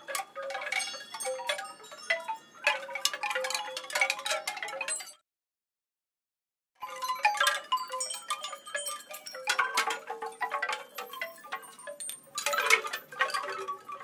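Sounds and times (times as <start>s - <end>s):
tinkling chimes: 0.0s - 5.2s, 6.8s - 14.0s.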